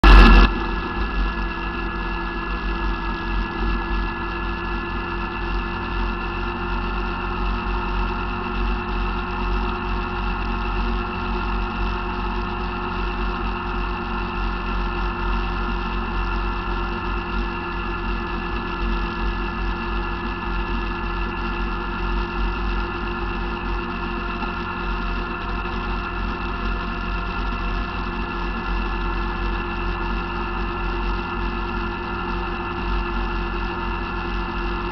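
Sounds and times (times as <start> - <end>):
quad engine running steadily: 0.0 - 34.9.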